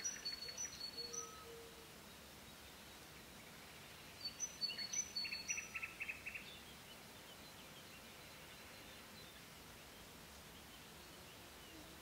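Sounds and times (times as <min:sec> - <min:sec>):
faint distant bird chirps: 0:00.0 - 0:12.0.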